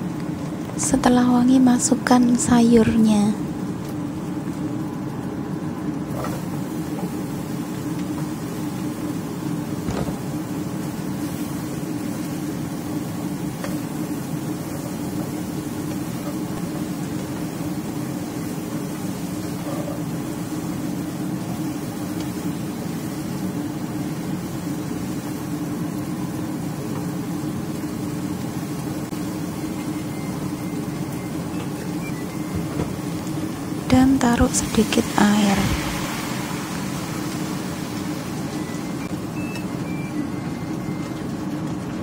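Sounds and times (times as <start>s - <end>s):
stove droning: 0.0s - 42.0s
vegetables stir-frying in a wok: 0.0s - 42.0s.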